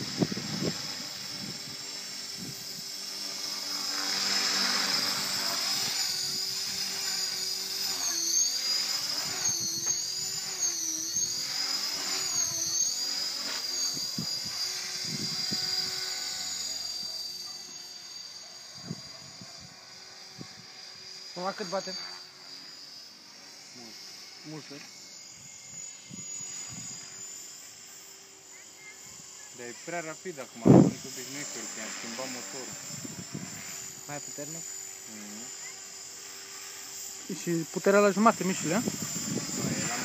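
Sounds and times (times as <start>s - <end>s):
rc helicopter whining: 0.0s - 40.0s.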